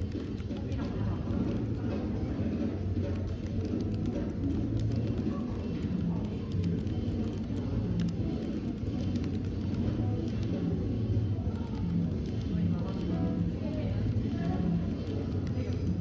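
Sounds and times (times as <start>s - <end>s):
keyboard typing clicks: 0.0s - 1.8s, 3.1s - 10.6s, 11.6s - 16.0s
murmur of room noise: 0.0s - 16.0s.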